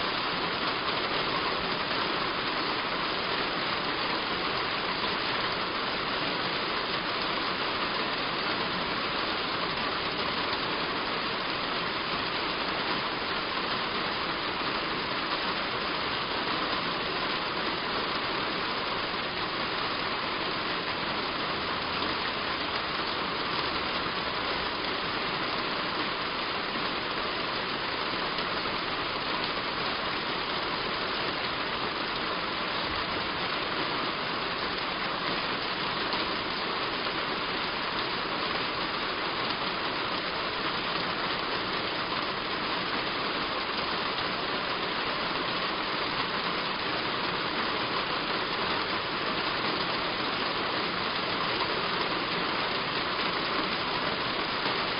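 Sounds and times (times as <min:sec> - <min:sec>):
heavy rain on a roof: 0:00.0 - 0:54.9.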